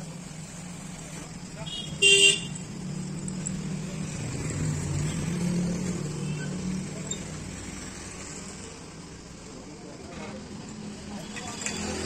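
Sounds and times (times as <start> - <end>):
road traffic hiss: 0.0 - 12.0
vehicle engine hum: 0.0 - 12.0.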